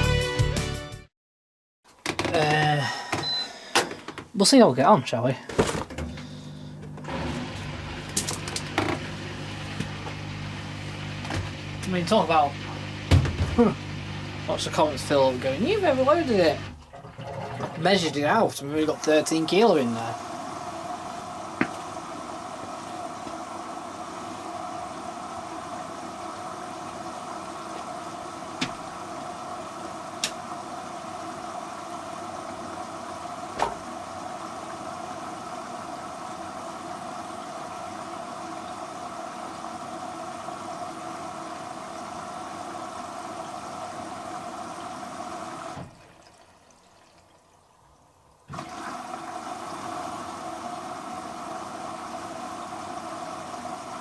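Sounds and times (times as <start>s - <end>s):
washer filling with water: 5.4s - 54.0s.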